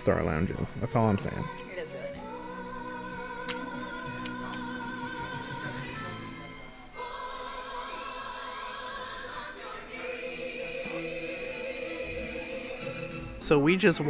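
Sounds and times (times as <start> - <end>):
choir-like sung notes: 1.0 - 14.0.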